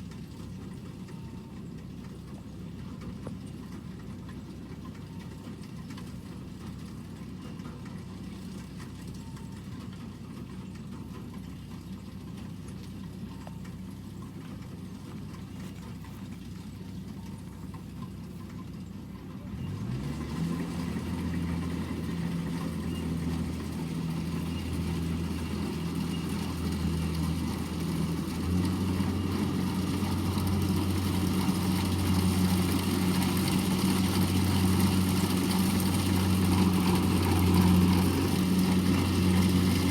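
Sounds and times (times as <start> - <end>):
combine harvester engine: 0.0 - 39.9.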